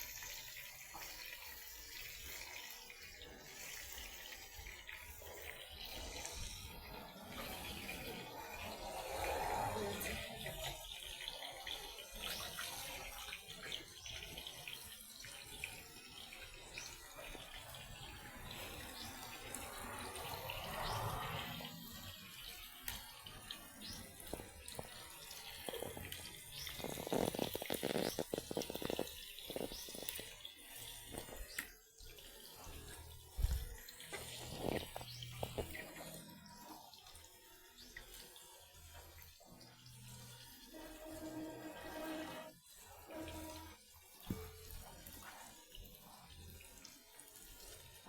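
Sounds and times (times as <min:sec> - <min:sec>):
water running and splashing: 0:00.0 - 0:48.0.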